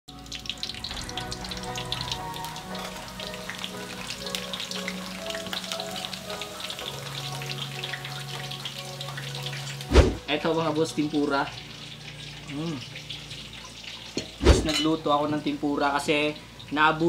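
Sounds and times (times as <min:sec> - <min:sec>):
background music: 0:00.1 - 0:14.8
fish frying in hot oil: 0:00.1 - 0:17.0.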